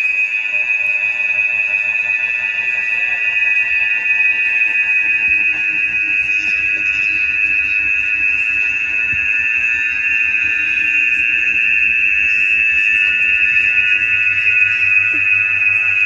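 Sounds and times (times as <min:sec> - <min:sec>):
loud high-pitched tone: 0:00.0 - 0:16.0.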